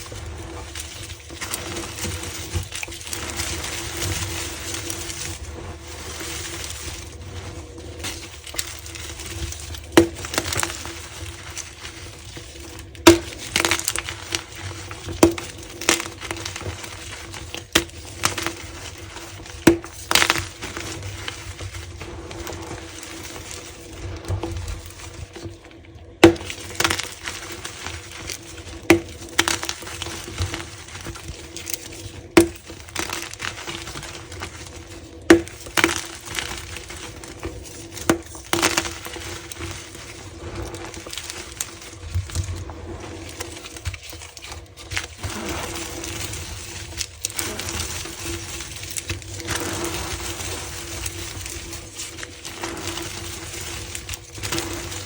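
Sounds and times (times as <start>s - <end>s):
crinkly material rustling: 0.0s - 55.0s.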